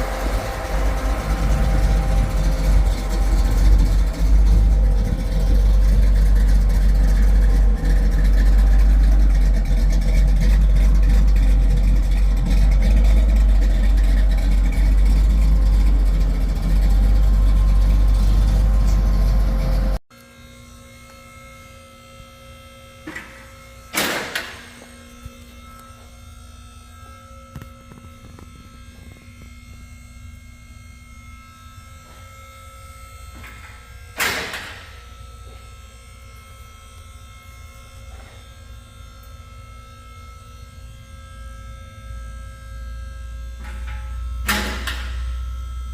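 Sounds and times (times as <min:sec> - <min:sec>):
car engine low rumble: 0:00.0 - 0:20.0, 0:20.6 - 0:45.9.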